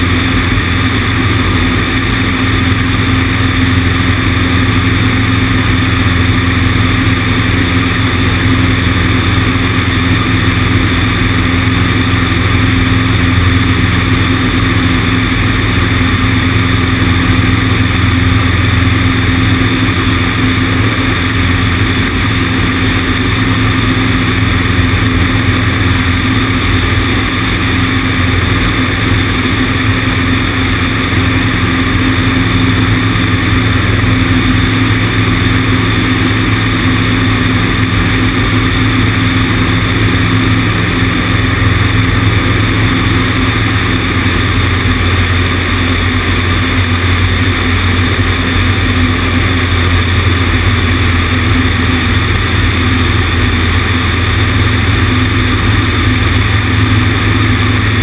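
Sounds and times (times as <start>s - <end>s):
airplane engine and propeller droning: 0.0s - 58.0s.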